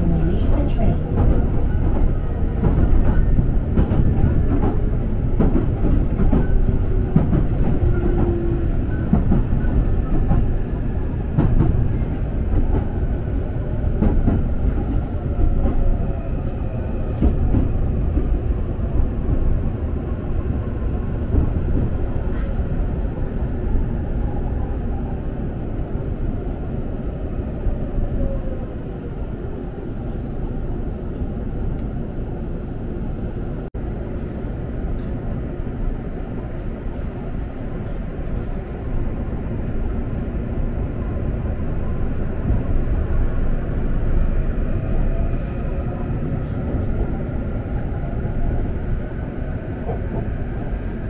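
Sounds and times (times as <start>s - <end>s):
train wheels rumbling on track: 0.0s - 51.0s.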